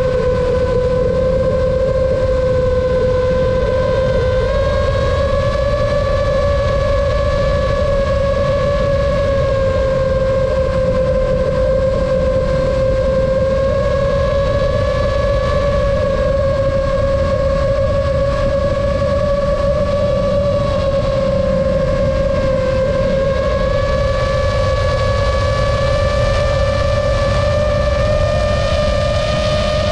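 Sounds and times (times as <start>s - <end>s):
quadcopter motors whining: 0.0s - 29.9s.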